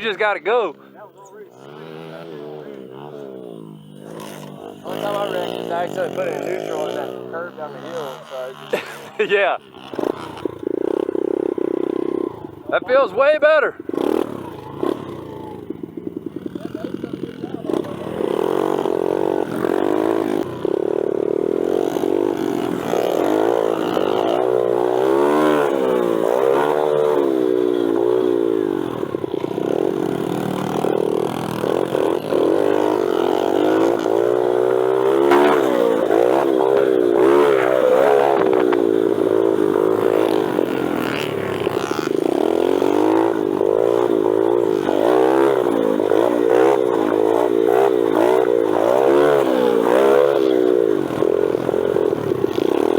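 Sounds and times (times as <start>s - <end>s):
pit bike engines revving: 0.0s - 52.9s.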